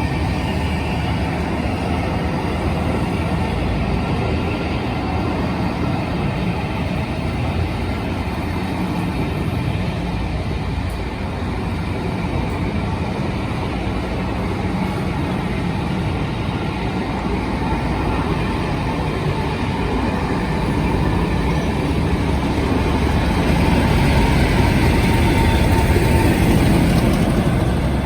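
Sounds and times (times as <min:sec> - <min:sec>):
diesel train rumbling: 0:00.0 - 0:28.0.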